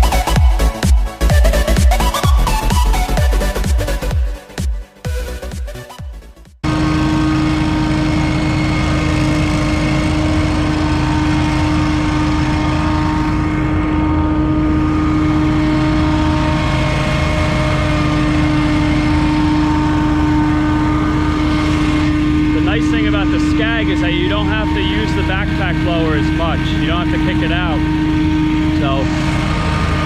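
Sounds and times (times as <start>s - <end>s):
leaf blower droning: 0.0s - 6.0s, 6.6s - 30.0s.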